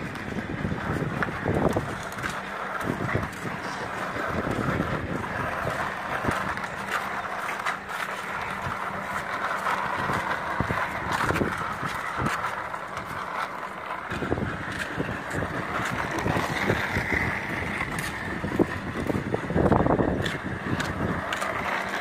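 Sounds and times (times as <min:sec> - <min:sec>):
toy car rolling on concrete: 0:00.0 - 0:22.0.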